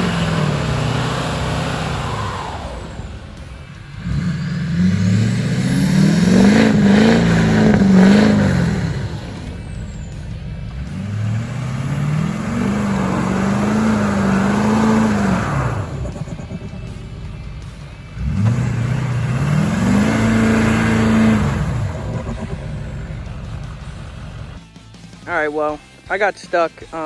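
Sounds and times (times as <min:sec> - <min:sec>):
tyres spinning in snow: 0:00.0 - 0:24.6
diesel truck engine revving: 0:00.0 - 0:24.7.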